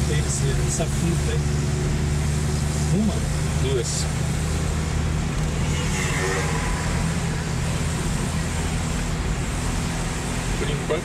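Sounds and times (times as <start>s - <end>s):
car engine hum inside cabin: 0.0s - 11.0s
road rush of tyres: 0.0s - 11.0s.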